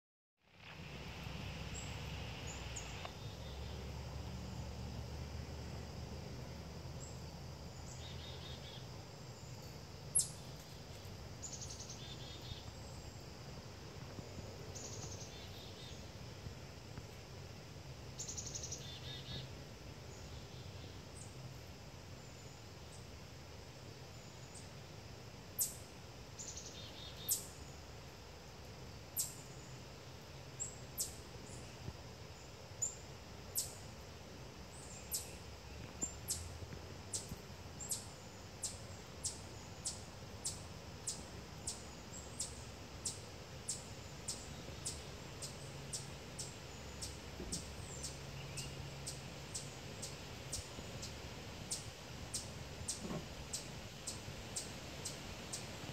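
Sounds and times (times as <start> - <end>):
faint low hum: 0.4 - 55.9.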